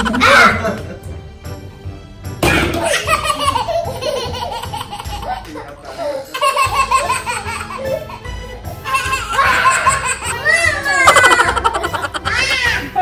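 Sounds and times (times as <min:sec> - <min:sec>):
young child laughing: 0:00.0 - 0:01.0, 0:02.5 - 0:08.2, 0:08.8 - 0:13.0
background music: 0:00.0 - 0:13.0.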